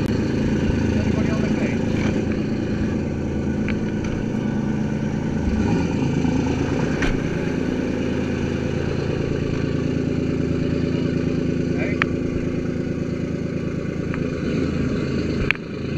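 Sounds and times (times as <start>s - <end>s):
boat engines idling: 0.0s - 15.9s.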